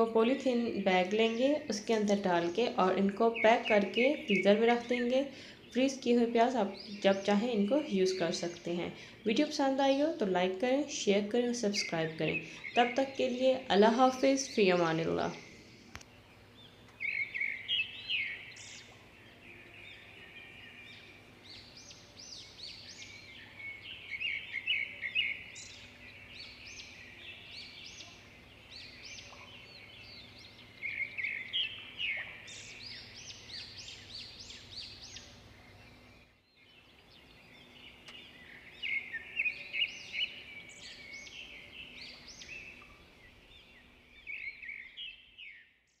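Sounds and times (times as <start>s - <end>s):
faint steady hum: 0.0s - 45.4s
birds chirping and chattering: 0.0s - 45.6s.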